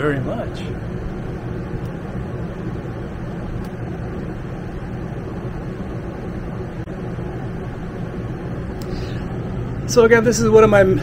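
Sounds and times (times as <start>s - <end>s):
air conditioner blowing hum: 0.0s - 11.0s.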